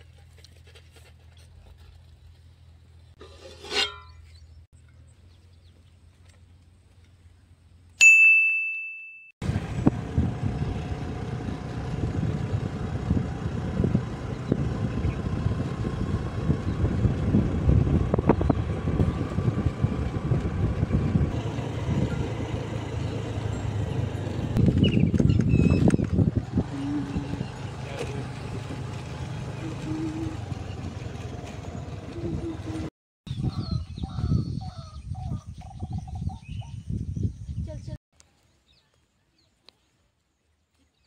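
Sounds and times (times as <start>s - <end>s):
road vehicle engine and road noise: 0.0s - 8.0s, 9.4s - 35.9s.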